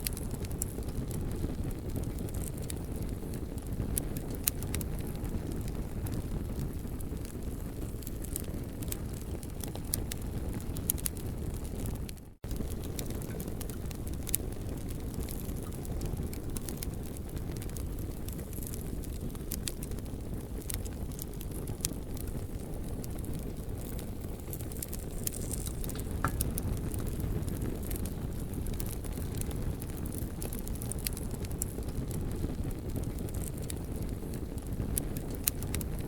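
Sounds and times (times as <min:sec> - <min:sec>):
campfire crackling and popping: 0:00.0 - 0:36.0
fire low rumble: 0:00.0 - 0:36.0.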